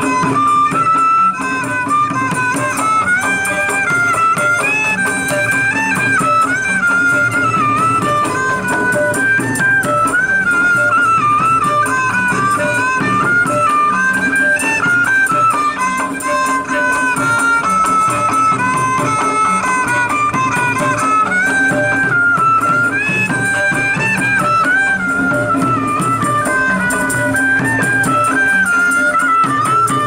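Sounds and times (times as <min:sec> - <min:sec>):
traditional melody over steady beat: 0:00.0 - 0:30.0.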